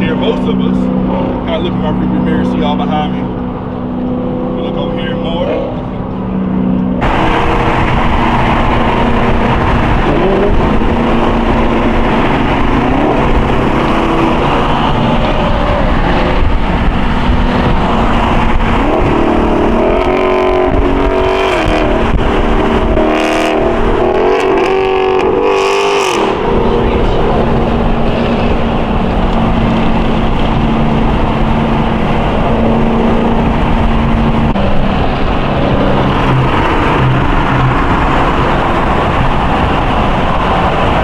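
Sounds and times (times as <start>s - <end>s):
muscle car engines revving: 0.0s - 41.0s.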